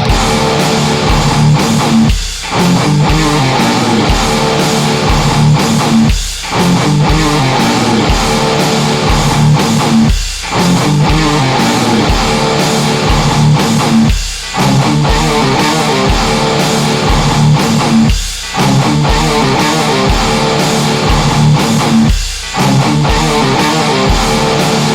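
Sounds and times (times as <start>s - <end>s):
distorted electric guitar riff: 0.0s - 24.9s
low drum thumps: 0.0s - 24.9s.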